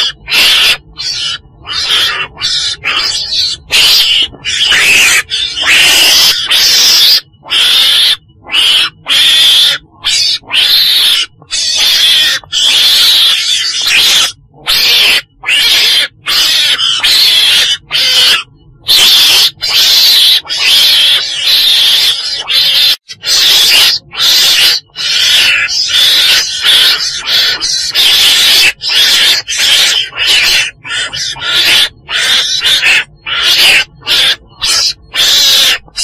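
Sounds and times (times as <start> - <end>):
weasel calling: 0.0 - 36.0.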